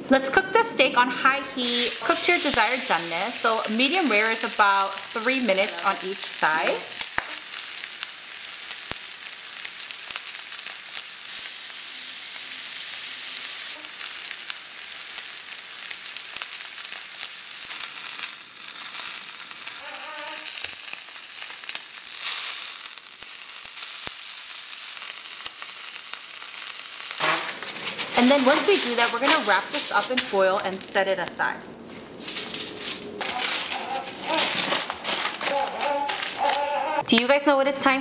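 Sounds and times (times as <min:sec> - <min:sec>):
steak sizzling in a frying pan: 0:01.6 - 0:36.6.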